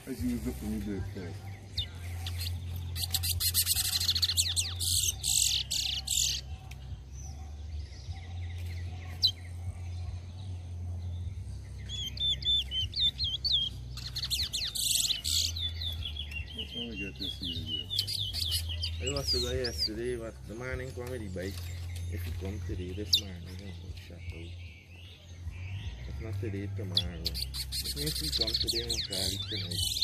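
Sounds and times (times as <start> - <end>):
finches twittering warble: 0.0 - 30.0.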